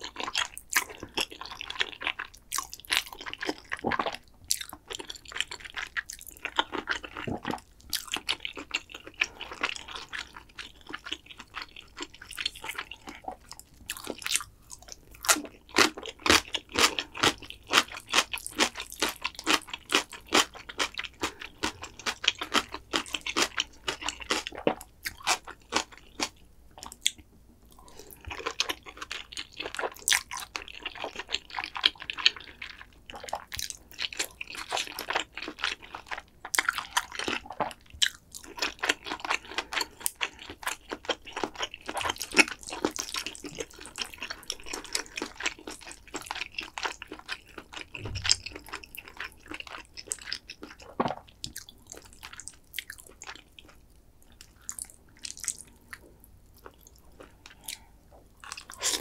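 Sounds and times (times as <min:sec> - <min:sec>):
chewing and crisp crunches: 0:00.0 - 0:59.0.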